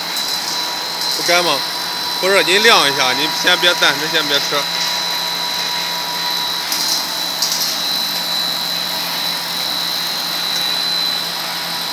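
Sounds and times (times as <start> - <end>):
machinery whining and humming: 0.0 - 11.9.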